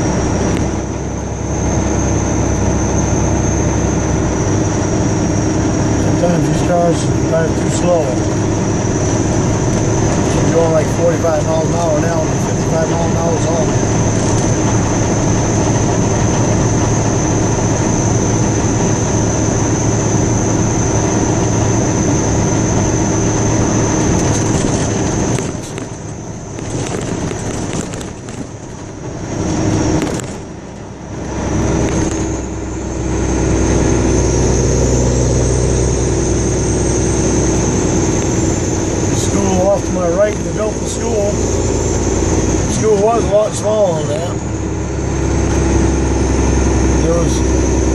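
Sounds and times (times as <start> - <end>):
car tyre and engine noise: 0.0 - 47.9
low rumble: 0.0 - 47.9.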